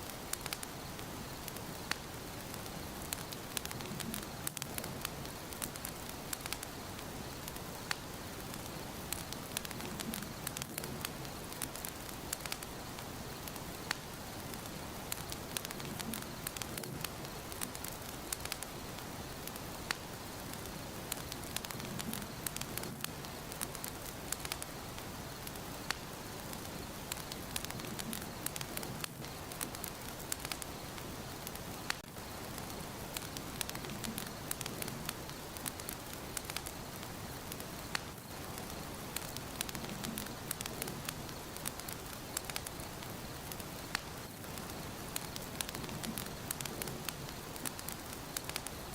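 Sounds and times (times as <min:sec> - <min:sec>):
fire crackles and pops: 0:00.0 - 0:48.9
wood fire hissing: 0:00.0 - 0:48.9.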